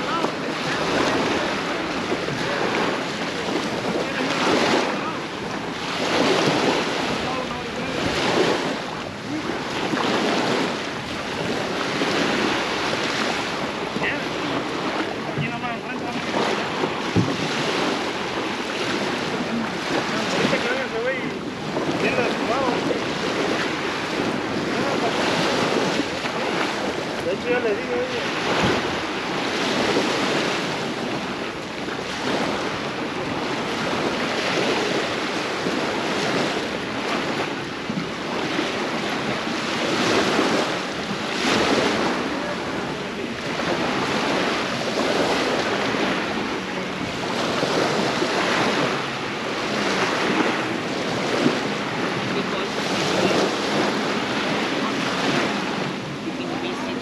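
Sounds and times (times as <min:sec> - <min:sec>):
ocean surf breaking: 0:00.0 - 0:57.0
wind buffeting microphone: 0:00.0 - 0:57.0.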